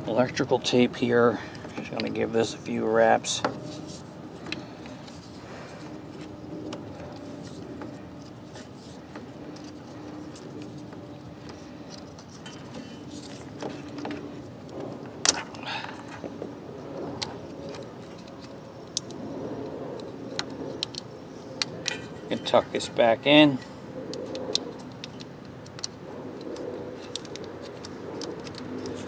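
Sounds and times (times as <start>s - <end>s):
rustling of wires and tape: 3.6s - 23.1s, 24.2s - 29.0s.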